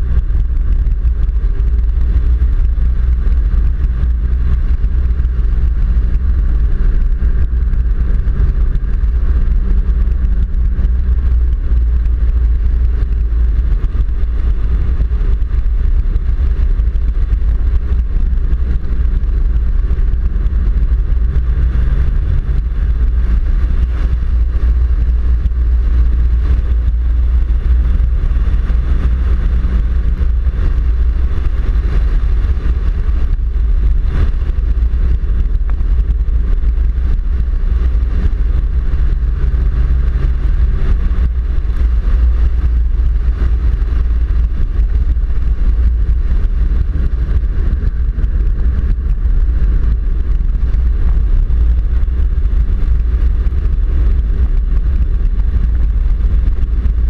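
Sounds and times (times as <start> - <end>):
engine hum: 0.0 - 57.0.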